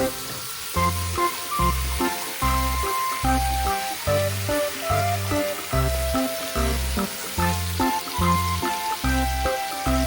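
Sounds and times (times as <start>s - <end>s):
background music with bouncing bass: 0.0s - 10.0s
food sizzling in a pan: 0.0s - 10.0s.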